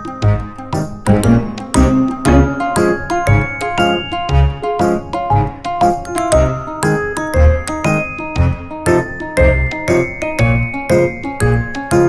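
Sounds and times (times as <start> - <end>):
bell-like melody: 0.0 - 12.0
upbeat music with steady beat: 0.0 - 12.0.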